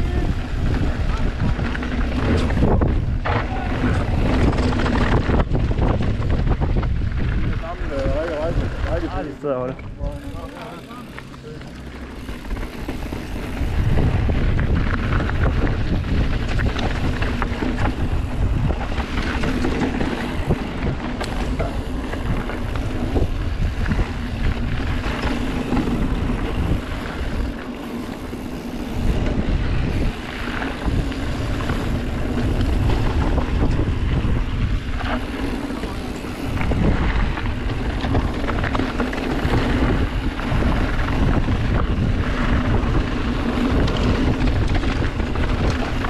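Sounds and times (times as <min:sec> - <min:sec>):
wind buffeting microphone: 0:00.0 - 0:10.5, 0:11.1 - 0:46.0
bike rattling over ground: 0:00.0 - 0:46.0
tyre noise: 0:00.0 - 0:46.0.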